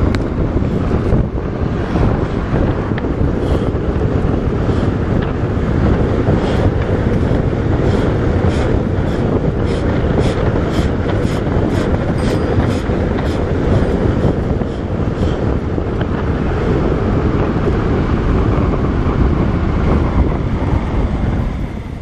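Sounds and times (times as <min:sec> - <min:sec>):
bicycle tyre noise: 0:00.0 - 0:22.0
wind rushing over microphone: 0:00.0 - 0:22.0.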